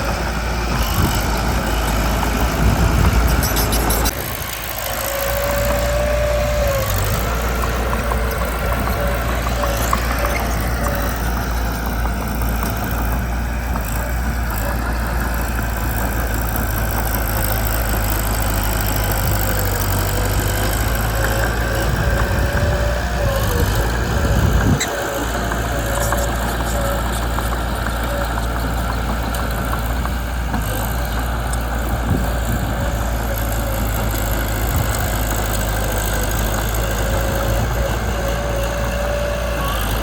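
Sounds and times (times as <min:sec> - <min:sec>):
bulldozer diesel engine droning: 0:00.0 - 0:40.0.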